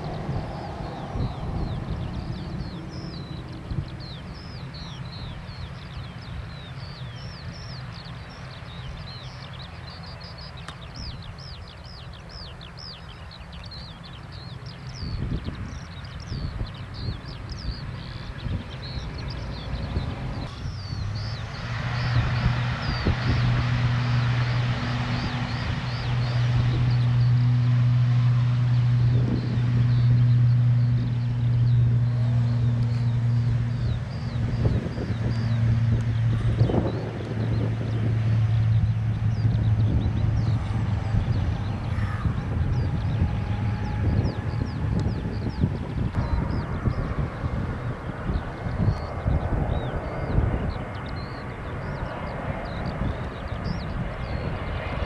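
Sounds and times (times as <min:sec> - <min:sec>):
low engine drone: 0:00.0 - 0:55.0
small birds chirping: 0:00.0 - 0:55.0
steady low rumble: 0:00.0 - 0:55.0.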